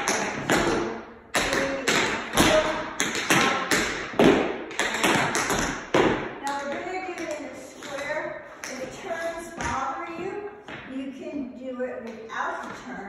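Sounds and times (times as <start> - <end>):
tap shoes on wooden floor: 0.0 - 11.1.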